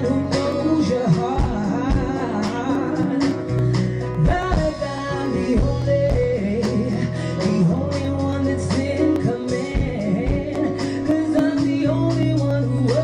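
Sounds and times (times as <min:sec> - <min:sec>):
bass line: 0:00.0 - 0:13.0
guitars: 0:00.0 - 0:13.0
woman singing: 0:00.0 - 0:13.0.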